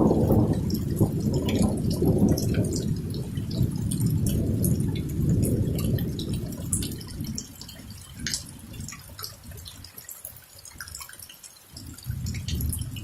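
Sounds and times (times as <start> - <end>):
thunder rumbling: 0.0 - 9.9, 11.8 - 13.0
rainwater dripping: 0.0 - 13.0.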